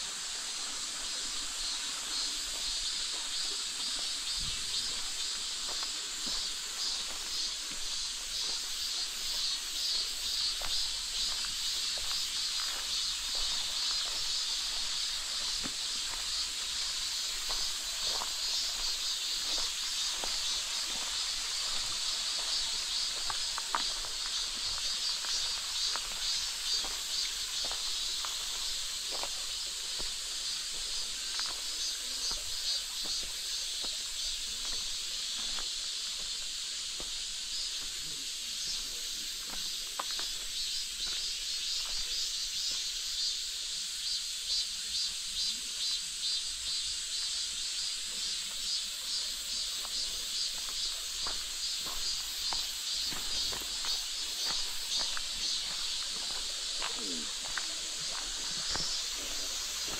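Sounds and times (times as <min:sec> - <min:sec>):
insects chorus: 0:00.0 - 0:59.9
footsteps on gravel path: 0:03.0 - 0:42.2, 0:49.6 - 0:59.9.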